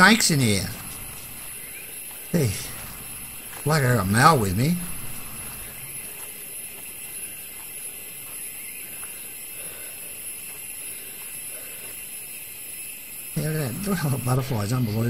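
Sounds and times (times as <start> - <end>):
footsteps on dirt trail: 0.0 - 15.0
high-pitched insect drone: 0.0 - 15.0.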